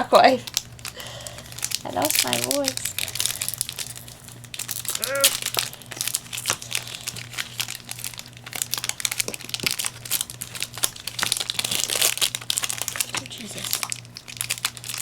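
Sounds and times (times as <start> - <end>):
foil wrapper crinkling: 0.0 - 15.0
cards being handled: 0.7 - 15.0.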